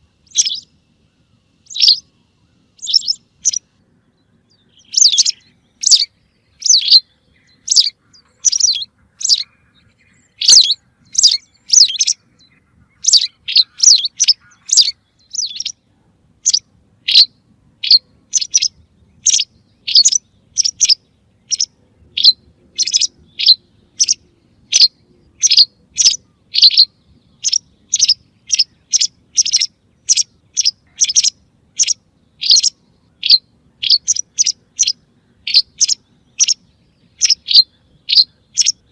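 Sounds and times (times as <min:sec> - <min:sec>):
recorded bird chirps: 0:00.0 - 0:38.9.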